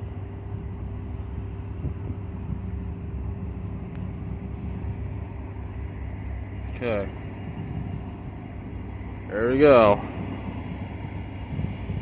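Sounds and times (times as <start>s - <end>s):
faint constant hum: 0.0s - 12.0s
locomotive low rumble: 0.0s - 12.0s.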